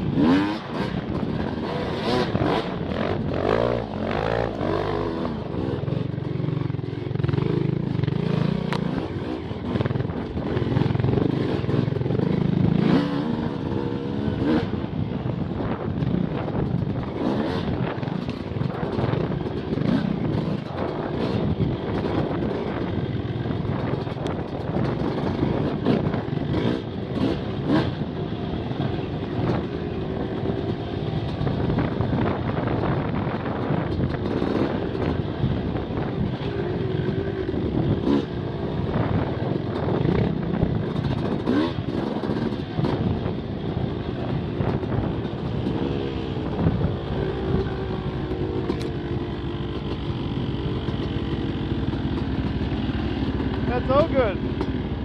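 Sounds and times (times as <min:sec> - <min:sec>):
knocks and rattles from bikes: 0:00.0 - 0:55.0
motorcycle engines revving: 0:00.0 - 0:55.0.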